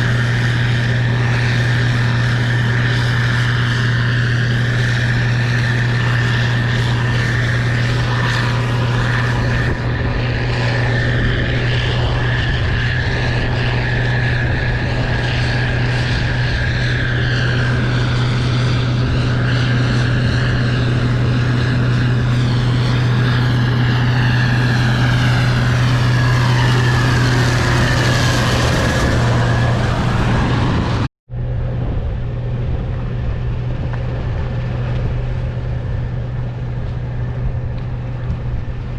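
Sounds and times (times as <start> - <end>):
combine diesel drone: 0.0 - 38.9
steady high whine: 0.0 - 38.9.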